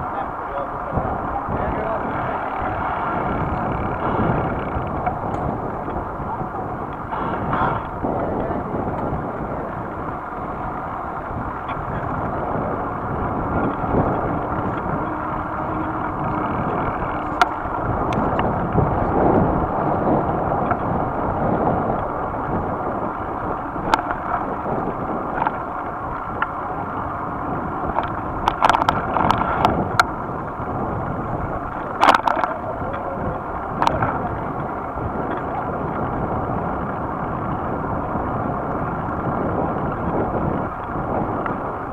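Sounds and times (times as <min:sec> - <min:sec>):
bicycle rolling noise: 0:00.0 - 0:41.9
rushing wind: 0:00.0 - 0:41.9.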